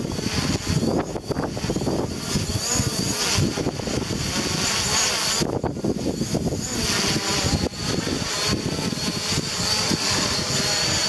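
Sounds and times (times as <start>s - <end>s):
drone propellers whining: 0.0s - 11.0s
wind buffeting microphone: 0.0s - 11.0s.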